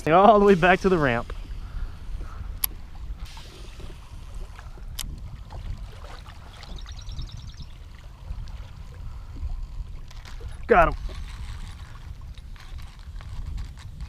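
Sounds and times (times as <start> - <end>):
water lapping at hull: 0.0 - 14.0
wind on microphone: 0.0 - 14.0.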